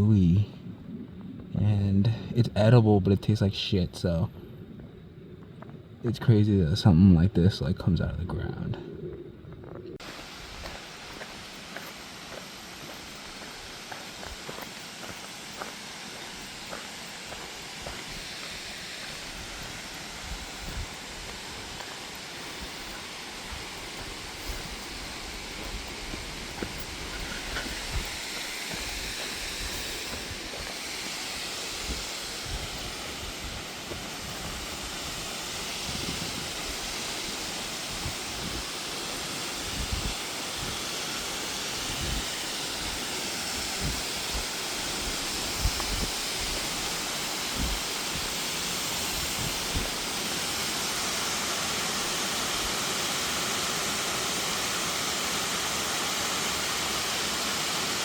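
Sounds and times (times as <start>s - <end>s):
waterfall rushing: 10.0s - 58.0s.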